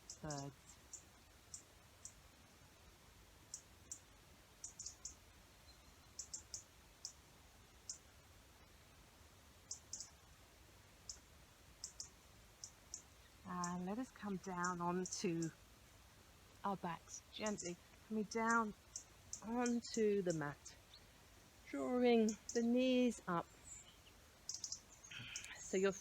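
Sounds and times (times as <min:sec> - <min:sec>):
small birds chirping: 0:00.0 - 0:02.2, 0:03.5 - 0:08.1, 0:09.6 - 0:10.3, 0:11.0 - 0:15.6, 0:16.6 - 0:26.0
faint background hiss: 0:00.0 - 0:26.0.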